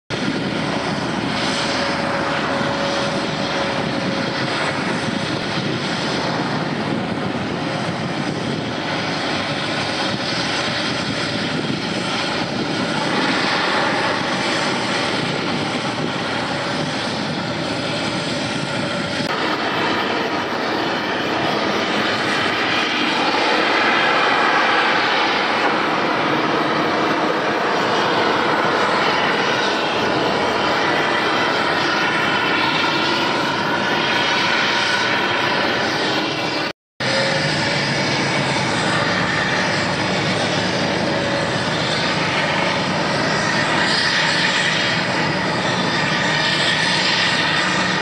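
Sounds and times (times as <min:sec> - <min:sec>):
heavy machinery drone: 0:00.1 - 0:48.0.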